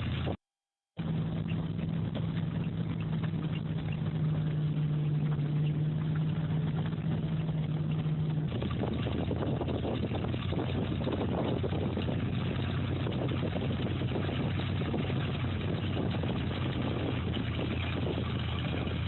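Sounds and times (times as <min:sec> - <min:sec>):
engine humming: 0:01.0 - 0:19.0.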